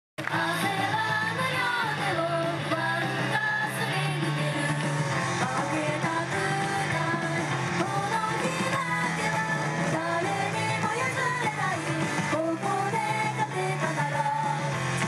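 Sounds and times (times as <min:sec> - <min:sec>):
backing track: 0:00.2 - 0:15.0
women singing pop-rock song: 0:00.2 - 0:15.0.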